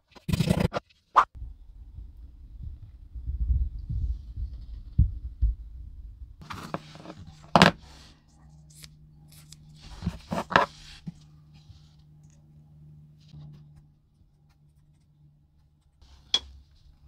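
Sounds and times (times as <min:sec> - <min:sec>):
low steady hum: 0:01.4 - 0:17.0.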